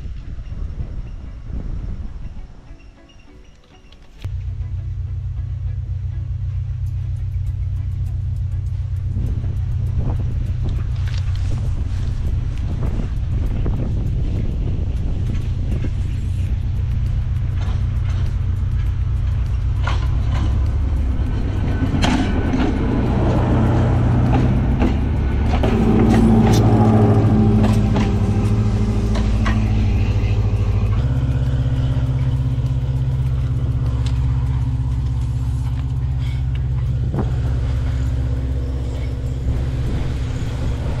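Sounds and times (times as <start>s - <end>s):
heavy vehicle engine hum: 3.7s - 41.0s.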